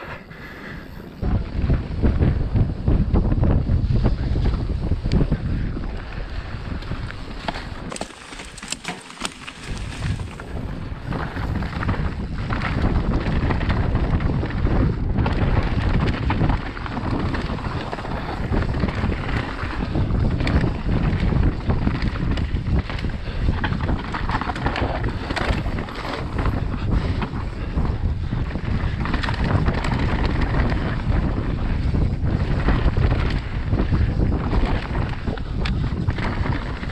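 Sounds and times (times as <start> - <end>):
wind buffeting microphone: 0.0 - 36.9
bike clattering over bumps: 1.4 - 36.9.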